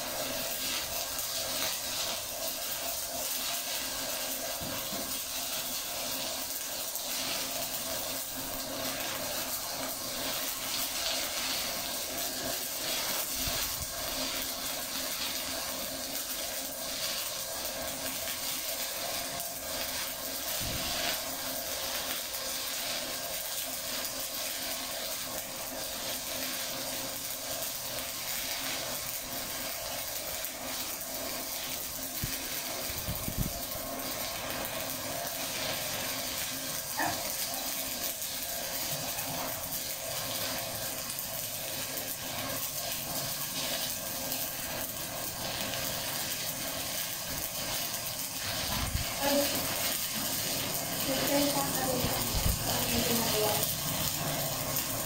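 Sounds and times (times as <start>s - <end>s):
welding arc crackling and sizzling: 0.0s - 55.0s.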